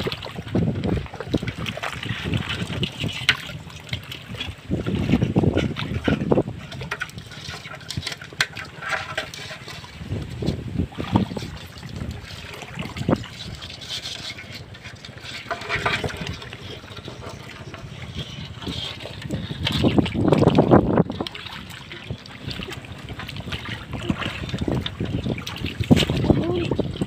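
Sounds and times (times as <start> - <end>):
muddy water splashing: 0.0 - 27.0.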